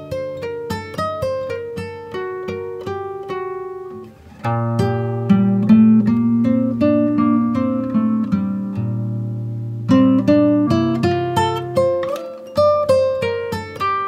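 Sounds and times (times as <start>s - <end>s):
acoustic guitar picking melody: 0.0s - 14.0s.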